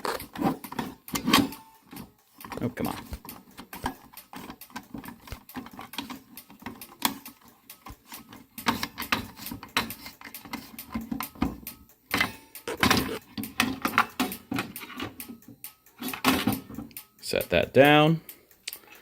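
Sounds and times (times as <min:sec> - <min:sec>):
fire alarm pull station clicking: 0:00.0 - 0:17.1.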